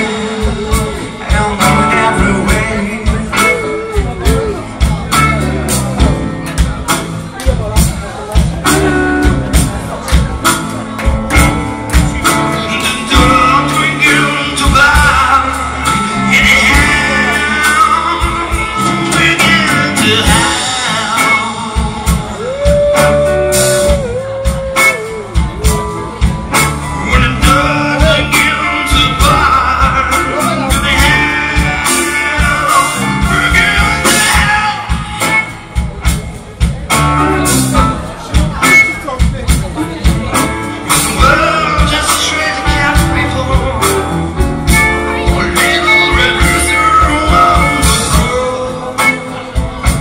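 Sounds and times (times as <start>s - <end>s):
live blues band: 0.0s - 50.0s
man singing: 0.0s - 50.0s.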